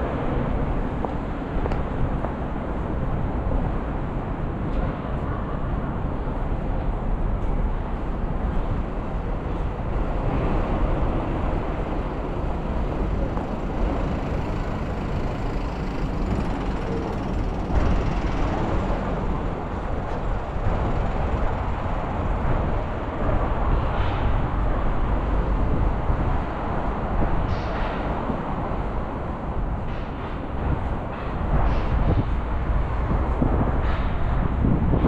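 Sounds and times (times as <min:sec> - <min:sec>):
road traffic: 0:00.0 - 0:35.0.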